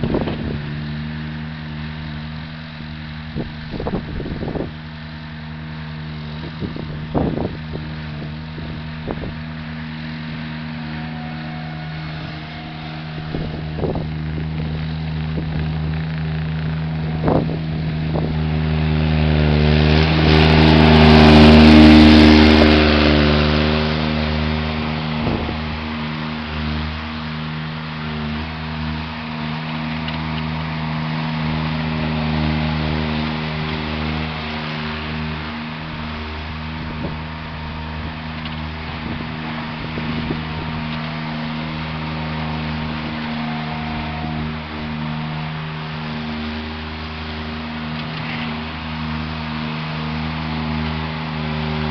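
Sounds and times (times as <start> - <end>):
skid steer engine running: 0.0 - 51.9.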